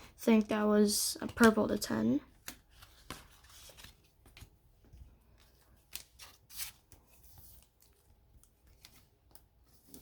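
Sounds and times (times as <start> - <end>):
trading cards rustling and flicking: 0.3 - 10.0.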